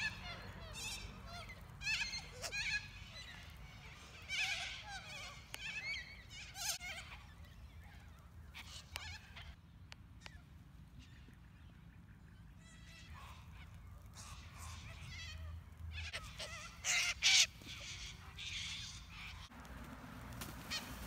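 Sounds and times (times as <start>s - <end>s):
birds screeching: 0.0s - 9.6s, 12.2s - 19.5s, 20.6s - 21.0s.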